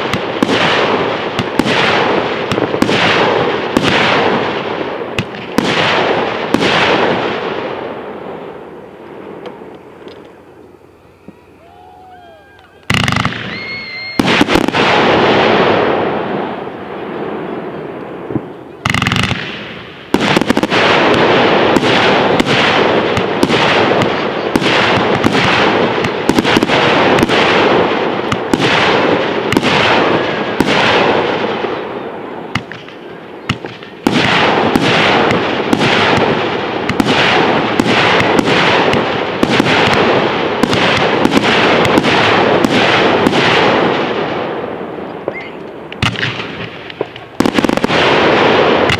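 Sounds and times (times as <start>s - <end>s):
fireworks exploding: 0.0s - 48.9s.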